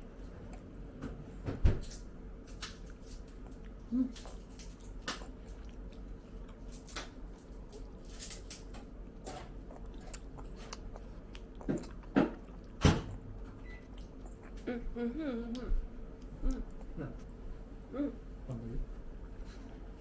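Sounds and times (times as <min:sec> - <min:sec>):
person chewing and eating: 0:00.0 - 0:01.3, 0:01.9 - 0:17.8.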